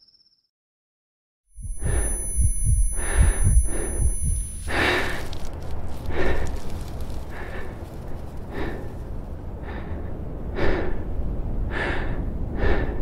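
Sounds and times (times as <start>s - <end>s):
person breathing hard: 1.6s - 13.0s
steady low rumble: 1.6s - 13.0s.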